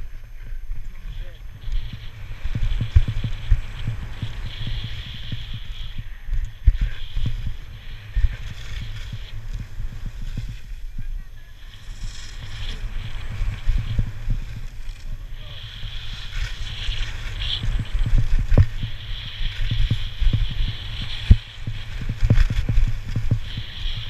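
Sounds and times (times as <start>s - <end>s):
skis scraping on snow: 0.0s - 24.0s
wind buffeting microphone: 0.0s - 24.0s.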